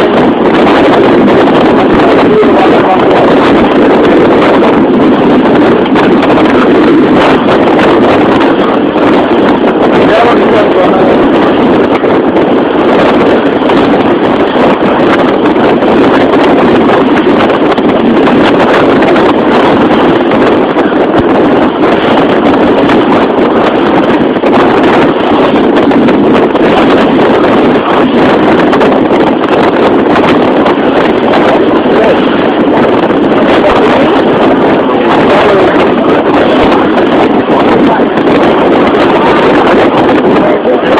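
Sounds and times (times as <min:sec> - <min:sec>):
wind rushing on microphone: 0:00.0 - 0:40.9.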